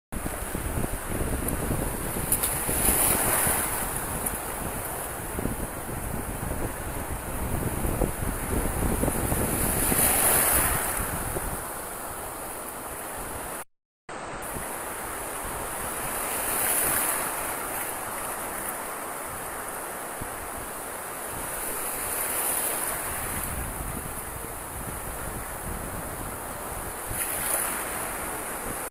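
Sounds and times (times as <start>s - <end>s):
small waves washing in: 0.2s - 13.6s, 14.3s - 28.9s
wind rumbling on microphone: 0.2s - 19.6s, 20.2s - 28.9s.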